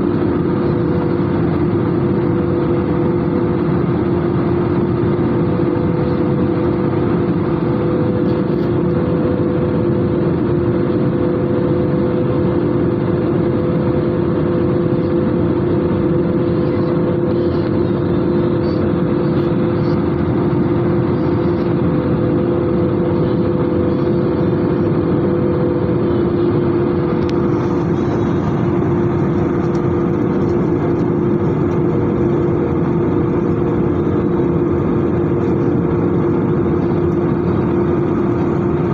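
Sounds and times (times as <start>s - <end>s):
jet engines rushing: 0.0s - 38.9s
low hum tones: 0.0s - 38.9s.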